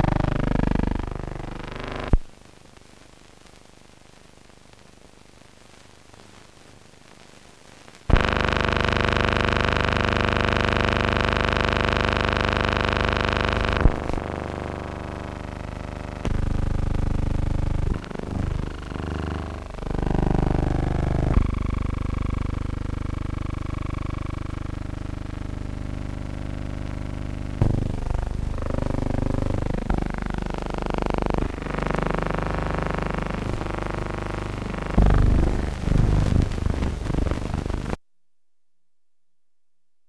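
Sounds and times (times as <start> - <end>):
harsh buzz: 0.0 - 2.2, 8.1 - 38.0.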